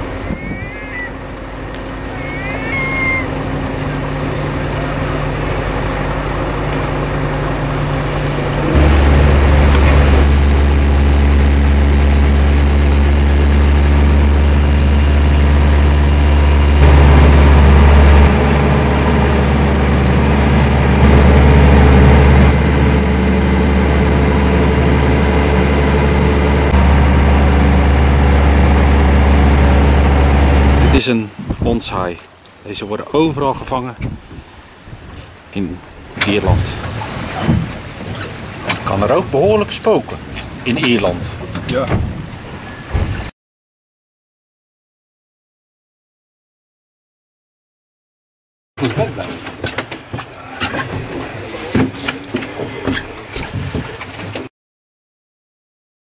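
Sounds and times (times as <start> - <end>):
boat engine running: 0.0 - 43.3, 48.8 - 54.5.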